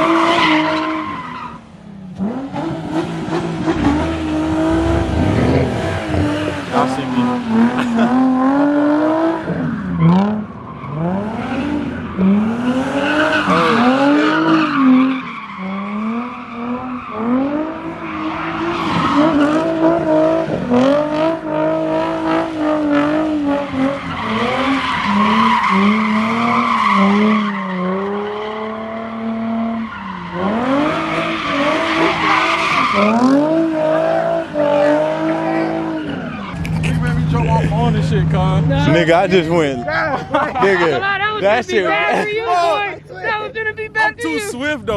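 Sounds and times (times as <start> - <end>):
car engine revving: 0.0 - 40.6
tyres squealing and skidding: 0.0 - 41.2.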